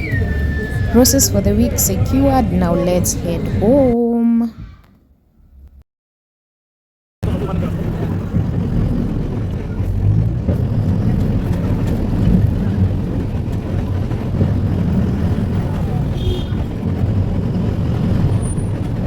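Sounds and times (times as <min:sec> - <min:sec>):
vehicle engine and road noise: 0:00.0 - 0:04.0, 0:07.2 - 0:19.0.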